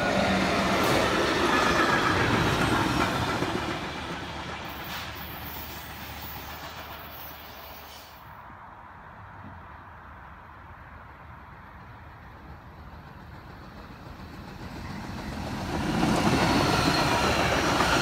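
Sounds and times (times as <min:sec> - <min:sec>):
freight train wheels on rails: 0:00.0 - 0:08.6, 0:10.6 - 0:18.0.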